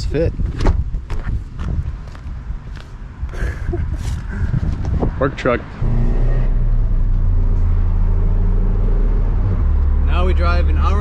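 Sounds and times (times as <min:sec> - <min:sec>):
steady low rumble: 0:00.8 - 0:11.0.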